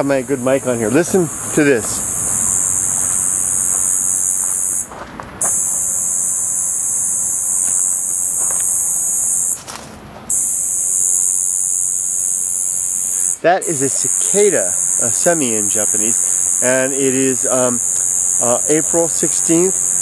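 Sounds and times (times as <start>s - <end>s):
cicada buzzing: 0.0s - 20.0s.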